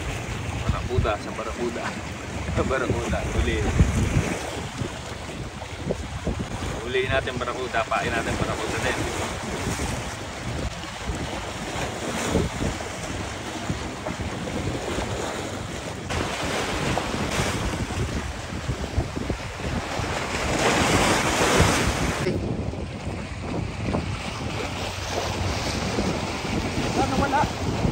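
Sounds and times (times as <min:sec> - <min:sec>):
sea rushing: 0:00.0 - 0:27.9
wind buffeting microphone: 0:00.0 - 0:27.9.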